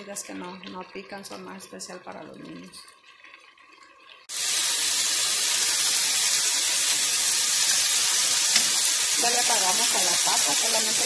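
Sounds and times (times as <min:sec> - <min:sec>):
chicken frying in butter: 0:00.0 - 0:11.0.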